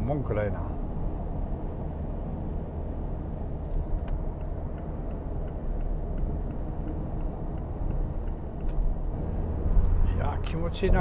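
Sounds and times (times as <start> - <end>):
diesel car engine low rumble: 0.0 - 11.0
road noise: 0.0 - 11.0.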